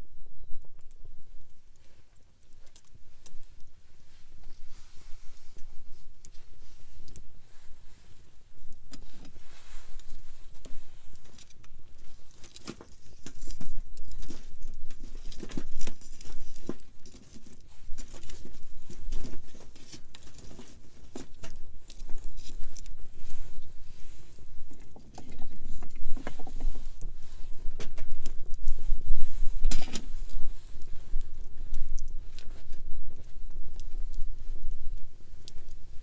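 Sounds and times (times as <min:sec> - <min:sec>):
campfire crackling: 0:00.8 - 0:36.0.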